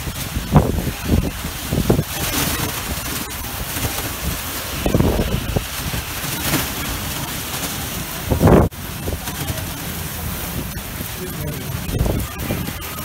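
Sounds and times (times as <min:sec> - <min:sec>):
heavy rain: 0:00.0 - 0:13.0
wind gusts buffeting microphone: 0:00.0 - 0:13.0.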